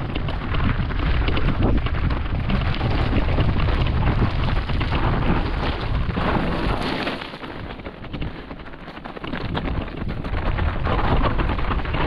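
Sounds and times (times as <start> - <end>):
bike rattling over rough ground: 0.0 - 12.0
wind rumbling on microphone: 0.0 - 12.0.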